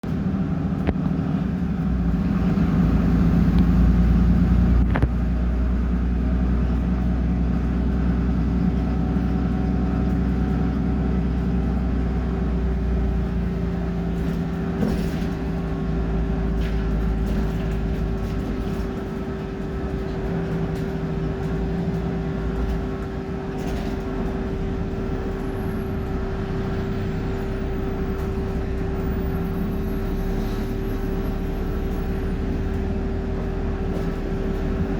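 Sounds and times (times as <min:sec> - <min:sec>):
bus diesel engine droning: 0:00.0 - 0:34.9.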